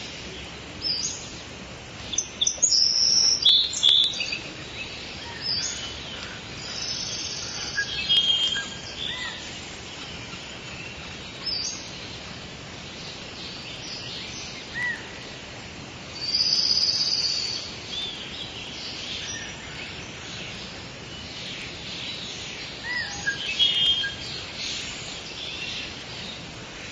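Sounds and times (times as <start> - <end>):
birds chirping and calling: 0.0 - 15.4, 16.2 - 26.9
steady background hiss: 0.0 - 26.9.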